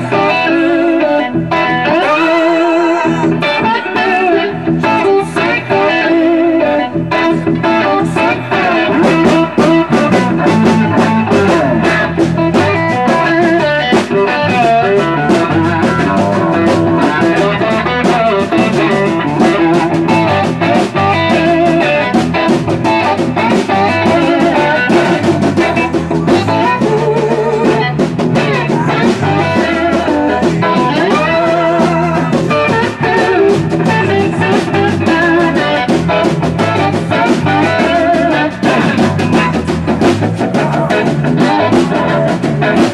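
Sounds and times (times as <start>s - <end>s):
electric guitar blues-rock: 0.0s - 42.9s.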